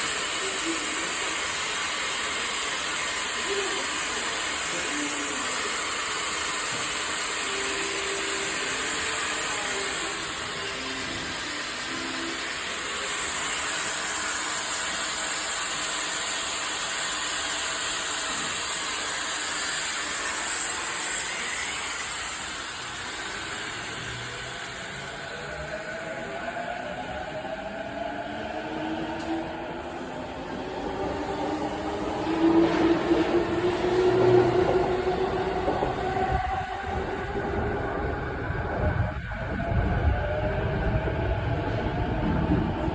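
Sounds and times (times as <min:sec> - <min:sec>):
train running with high hiss: 0:00.0 - 0:42.9.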